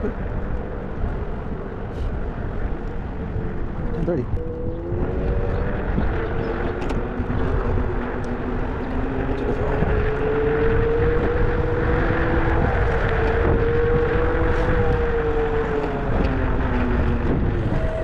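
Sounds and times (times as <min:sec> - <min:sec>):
road and wind rumble: 0:00.0 - 0:18.0.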